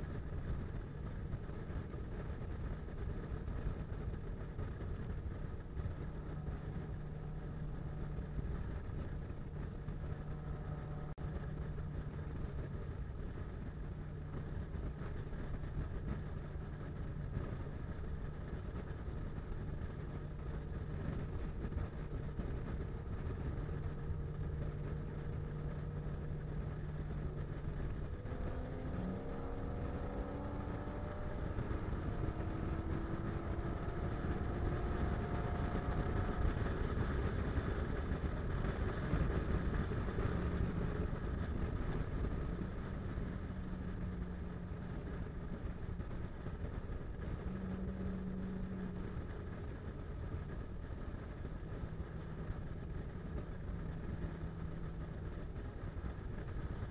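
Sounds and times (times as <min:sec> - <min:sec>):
car engine at highway speed: 0:00.0 - 0:56.9
tyre road rumble: 0:00.0 - 0:56.9.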